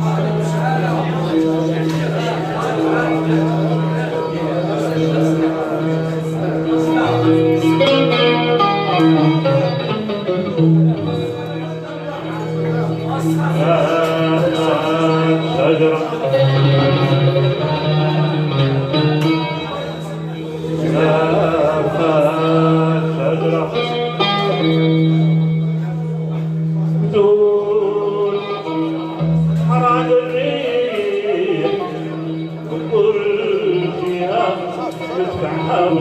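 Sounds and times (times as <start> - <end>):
man singing: 0.0 - 9.9, 13.1 - 19.7, 20.6 - 25.2, 27.0 - 36.0
plucked string instruments: 0.0 - 36.0.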